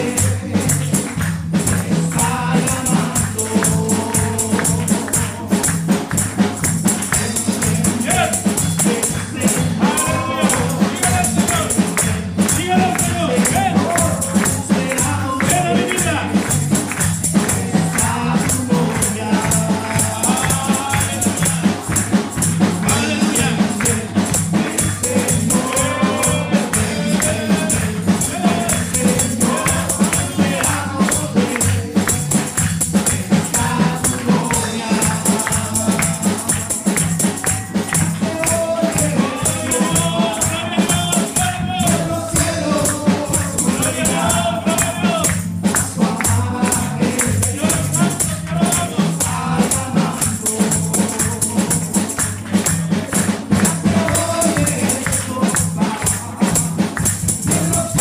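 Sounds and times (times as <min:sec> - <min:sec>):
drum kit: 0:00.0 - 0:58.0
keyboard: 0:00.0 - 0:58.0
people singing together: 0:00.0 - 0:58.0
tambourine shaken and struck: 0:00.0 - 0:58.0.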